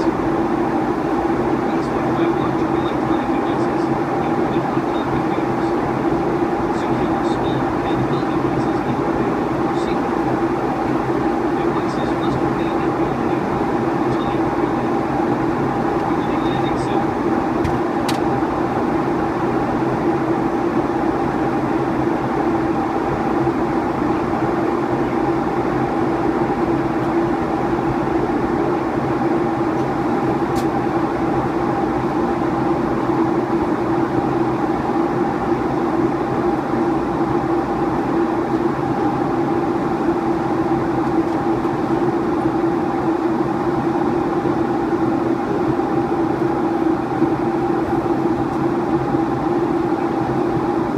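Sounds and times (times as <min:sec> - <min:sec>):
aircraft engine drone: 0:00.0 - 0:50.9.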